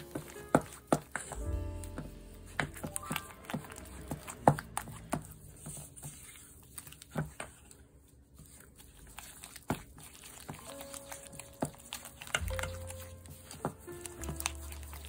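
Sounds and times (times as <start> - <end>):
spatula stirring in metal bowl: 0.0 - 15.0.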